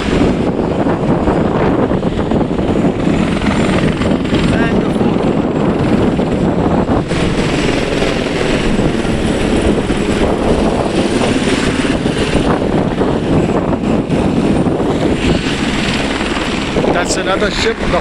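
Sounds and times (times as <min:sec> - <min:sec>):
helicopter rotor and engine drone: 0:00.0 - 0:18.0.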